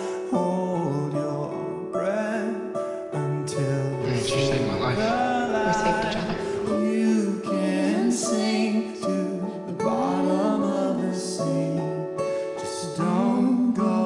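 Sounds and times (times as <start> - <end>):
acoustic guitar: 0.0 - 14.0
person singing: 0.0 - 14.0.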